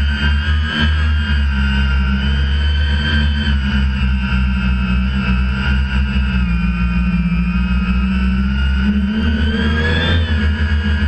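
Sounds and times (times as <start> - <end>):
drone propellers whining: 0.0 - 11.0
heavy low rumble: 0.0 - 11.0.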